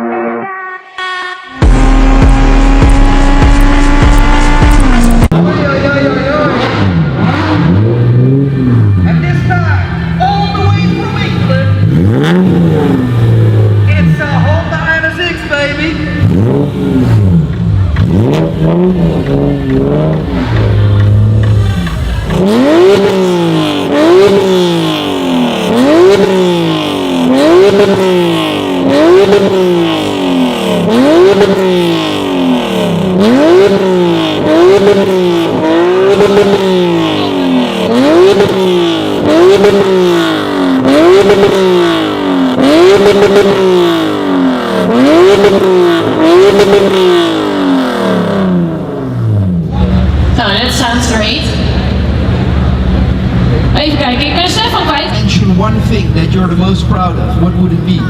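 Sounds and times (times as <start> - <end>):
car engine revving: 1.6 - 58.0.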